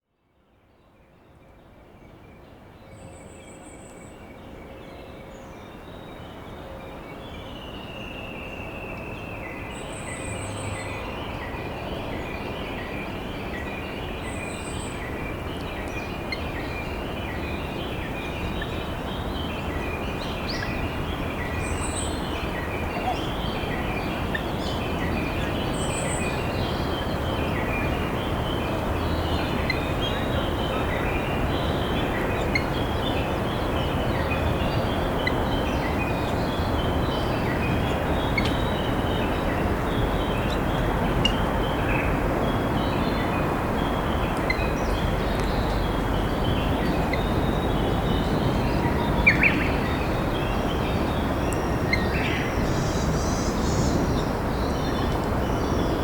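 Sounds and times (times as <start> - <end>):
songbirds calling: 8.9 - 56.0.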